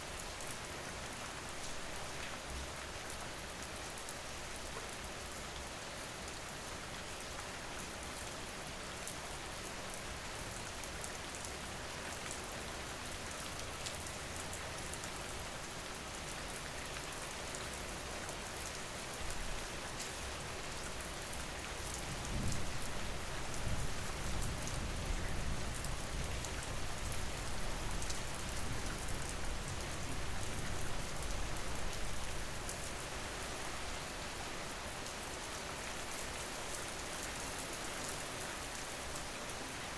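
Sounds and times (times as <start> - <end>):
rain falling with drop patter: 0.0 - 39.9.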